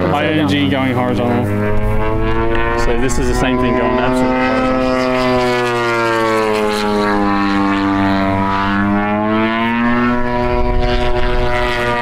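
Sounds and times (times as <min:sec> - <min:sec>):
model airplane engine and propeller: 0:00.0 - 0:12.0.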